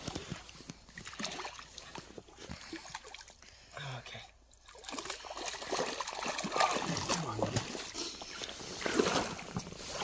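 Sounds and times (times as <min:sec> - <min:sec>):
water splashing and sloshing: 0:00.0 - 0:10.0.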